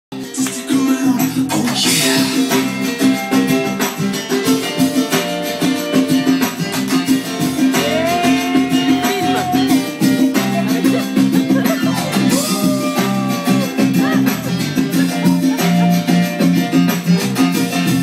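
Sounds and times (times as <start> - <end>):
upbeat music with plucked guitar: 0.1 - 18.0.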